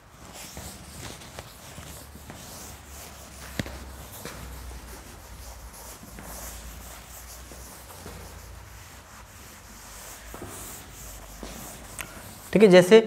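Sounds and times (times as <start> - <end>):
duster rubbing on chalkboard: 0.1 - 12.7.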